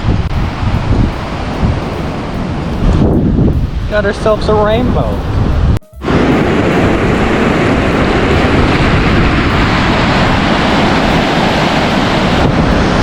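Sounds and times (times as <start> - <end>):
waves breaking: 0.0 - 13.0
wind buffeting microphone: 0.0 - 13.0.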